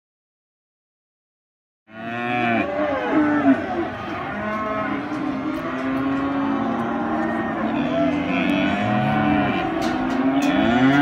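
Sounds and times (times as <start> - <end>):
cattle mooing and bellowing: 1.9 - 11.0.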